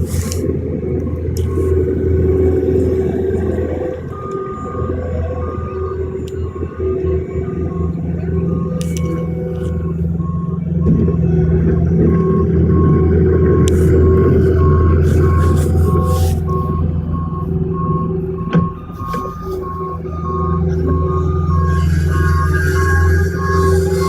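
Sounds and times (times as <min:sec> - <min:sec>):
engine low hum: 0:00.0 - 0:24.0
reversing alarm beeping: 0:00.0 - 0:24.0.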